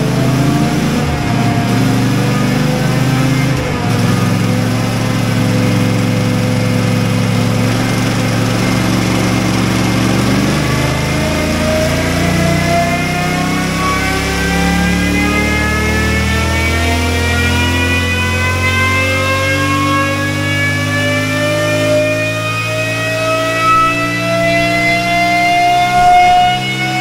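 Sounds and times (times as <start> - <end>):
motorcycle engine revving on dyno: 0.0 - 27.0.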